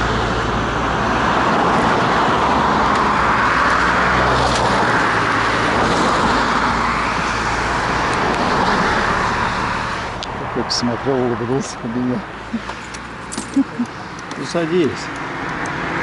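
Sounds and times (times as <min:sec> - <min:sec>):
traffic passing: 0:00.0 - 0:16.0.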